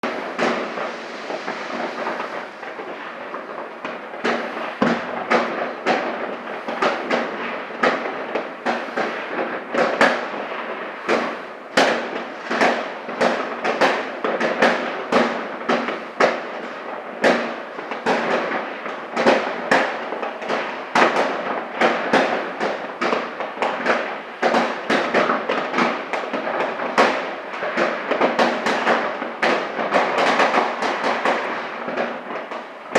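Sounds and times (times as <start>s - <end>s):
firecrackers crackling: 0.0s - 32.9s
fireworks banging: 0.0s - 32.9s.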